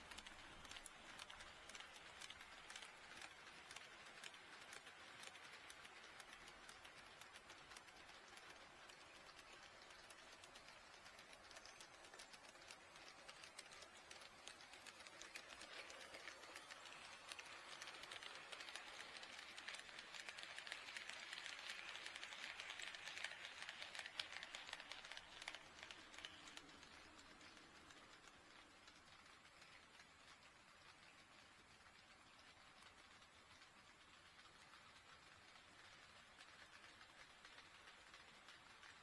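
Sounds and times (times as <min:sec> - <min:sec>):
model train running on track: 0:00.0 - 0:39.0.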